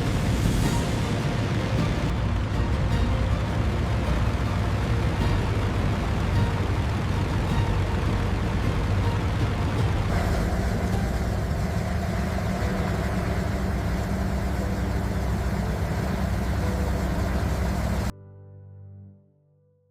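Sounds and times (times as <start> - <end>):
aircraft piston engine drone: 0.0 - 18.1.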